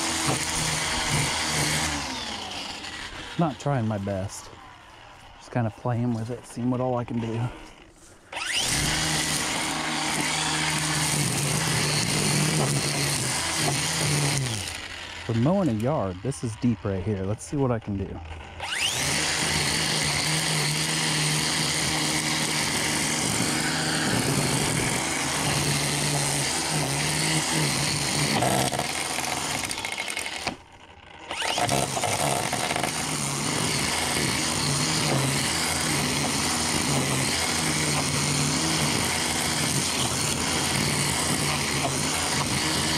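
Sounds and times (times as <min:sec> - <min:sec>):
string trimmer cutting grass: 0:00.0 - 0:42.9.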